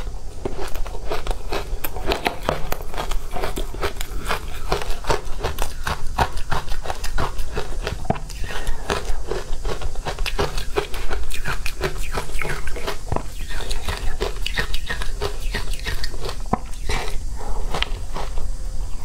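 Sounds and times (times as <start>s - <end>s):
chewing crunchy shaved ice: 0.0s - 19.0s.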